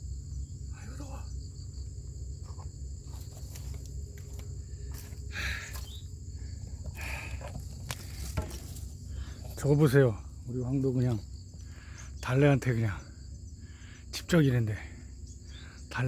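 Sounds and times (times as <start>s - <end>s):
insects chirring: 0.0s - 16.0s
low background rumble: 0.0s - 16.0s.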